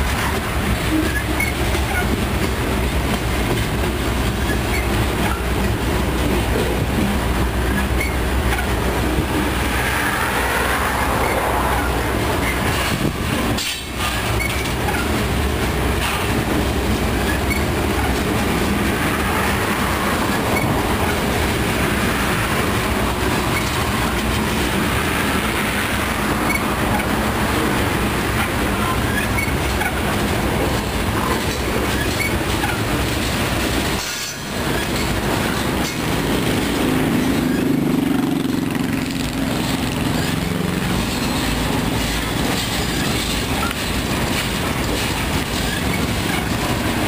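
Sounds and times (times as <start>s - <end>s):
freight train wheels rumbling on rails: 0.0s - 47.0s.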